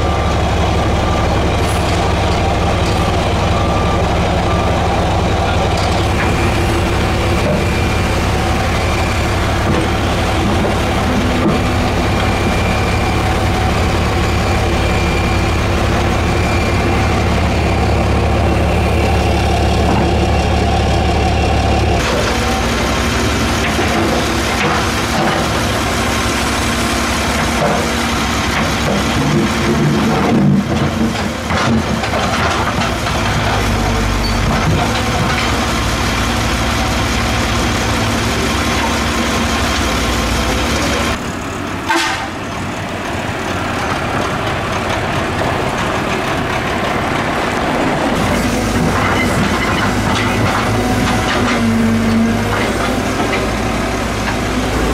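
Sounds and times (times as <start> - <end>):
diesel engines running: 0.0 - 54.9.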